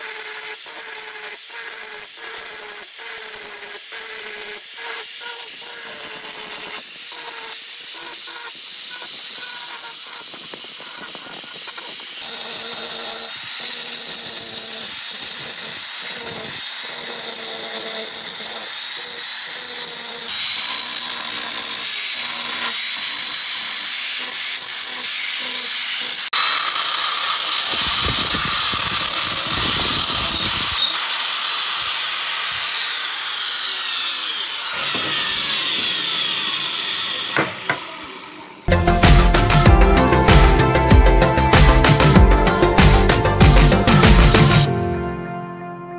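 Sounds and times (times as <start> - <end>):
angle grinder grinding metal: 0.0 - 44.7.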